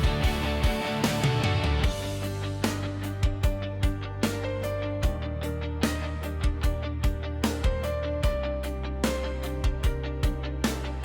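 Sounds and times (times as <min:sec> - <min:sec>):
pop music with guitar: 0:00.0 - 0:11.0.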